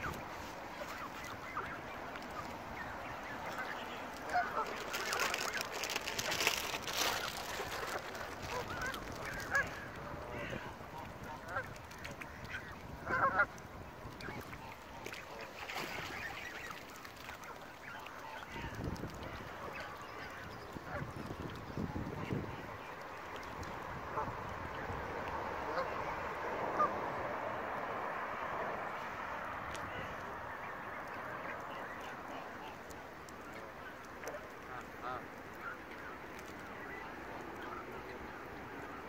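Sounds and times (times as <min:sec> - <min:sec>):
geese honking: 0:00.0 - 0:21.1, 0:25.6 - 0:27.0, 0:29.9 - 0:39.0.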